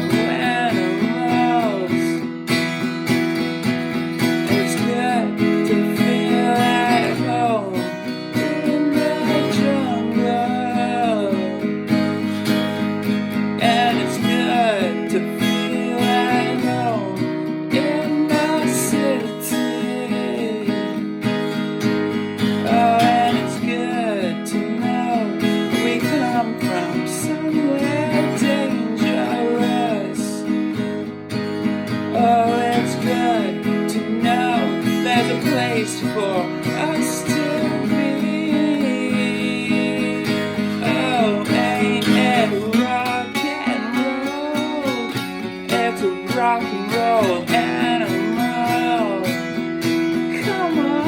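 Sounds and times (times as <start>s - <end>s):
acoustic guitar strummed: 0.0s - 51.0s.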